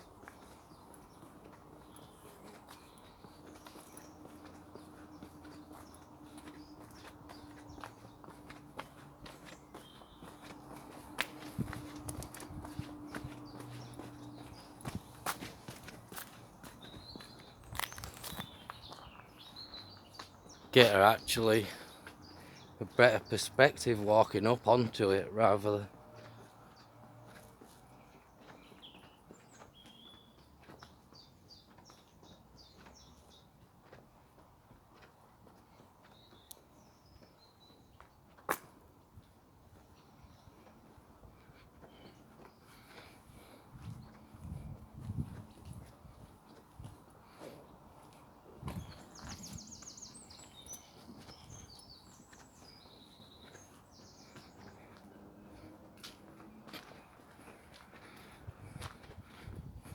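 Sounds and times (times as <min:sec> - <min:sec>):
songbird singing: 0:00.0 - 0:33.7, 0:35.2 - 0:38.3, 0:39.7 - 0:59.6
faint birdsong chirps: 0:00.0 - 0:59.6.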